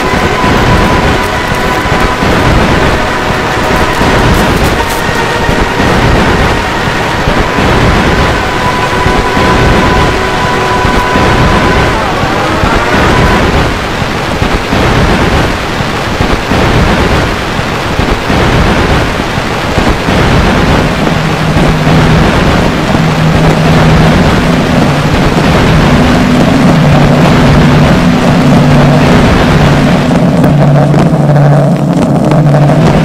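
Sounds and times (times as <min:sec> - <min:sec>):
low humming tones: 0:00.0 - 0:33.0
turntable noise roar: 0:00.0 - 0:33.0.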